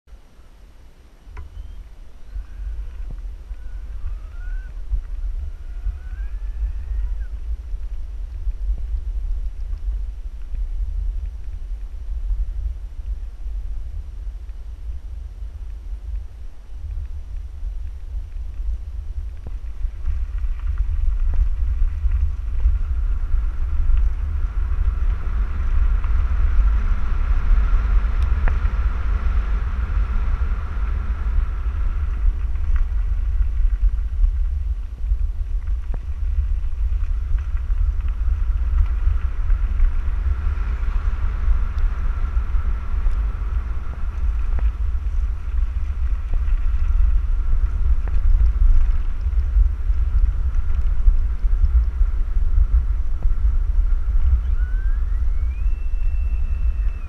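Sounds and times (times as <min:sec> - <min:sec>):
wind buffeting microphone: 0:00.1 - 0:57.0.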